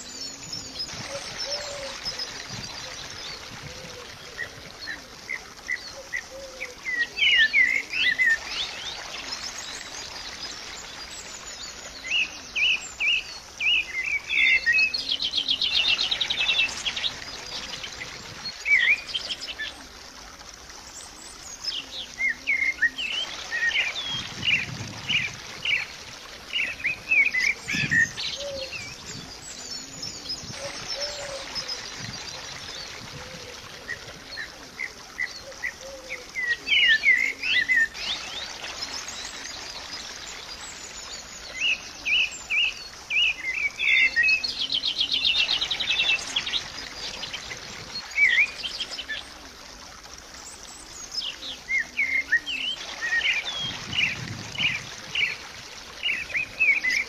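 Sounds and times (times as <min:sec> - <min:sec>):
birds chirping: 0:00.0 - 0:20.2, 0:20.9 - 0:49.4.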